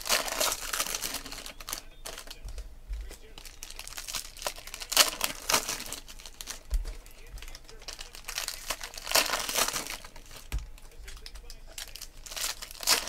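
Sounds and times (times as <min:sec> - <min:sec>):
foil wrapper crinkling and tearing: 0:00.0 - 0:02.4, 0:03.1 - 0:13.0.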